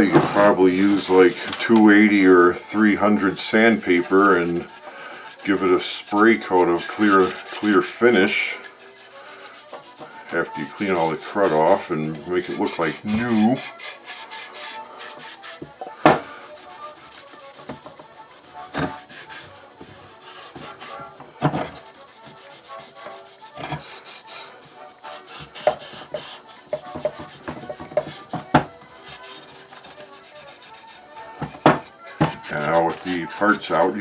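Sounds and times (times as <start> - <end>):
scrubbing wood: 0.0 - 2.1, 2.8 - 34.0.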